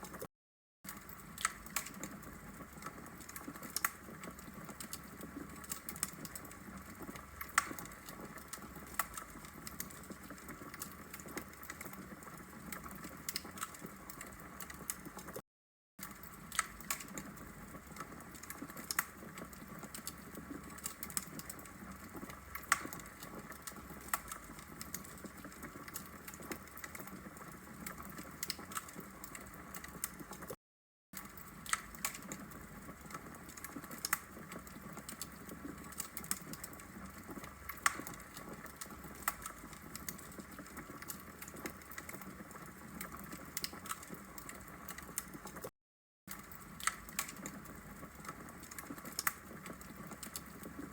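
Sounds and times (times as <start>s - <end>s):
burning wood crackling and popping: 0.9s - 15.4s, 16.0s - 30.6s, 31.2s - 45.7s, 46.3s - 50.9s.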